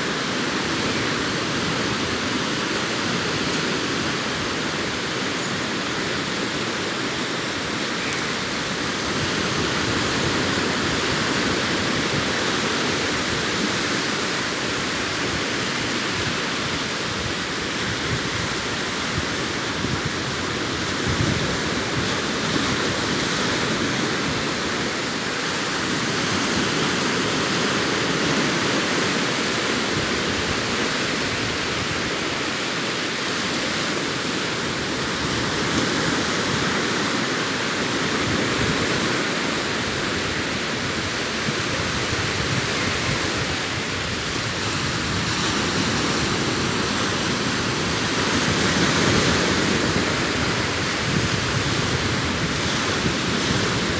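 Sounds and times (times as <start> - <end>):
waves breaking on beach: 0.0 - 53.9.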